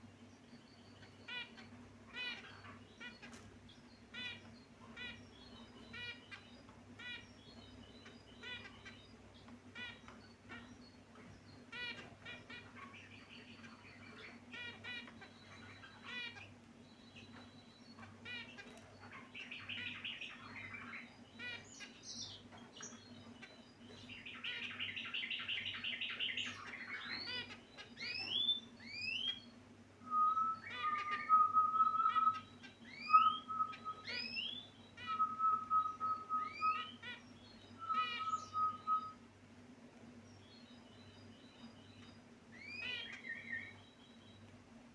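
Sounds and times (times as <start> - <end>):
finches chirping and calling: 0.0 - 44.9
low steady hum: 0.0 - 44.9.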